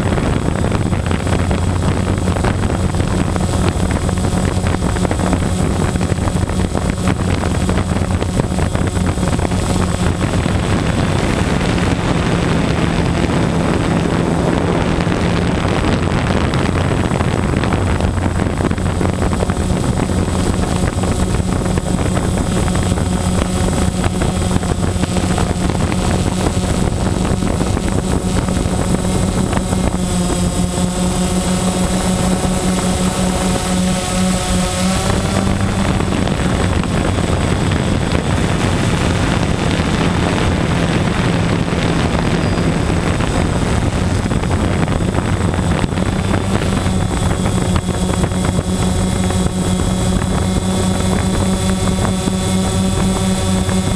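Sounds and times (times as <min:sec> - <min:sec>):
small engine and propeller running: 0:00.0 - 0:53.9
wind noise: 0:00.0 - 0:53.9.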